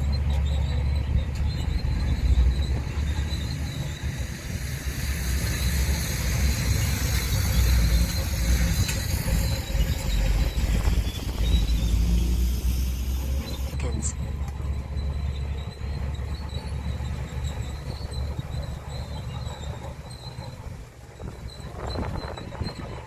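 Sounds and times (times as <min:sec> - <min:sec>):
crawler tracks squealing: 0:00.0 - 0:23.0
diesel engine rumbling: 0:00.0 - 0:23.0.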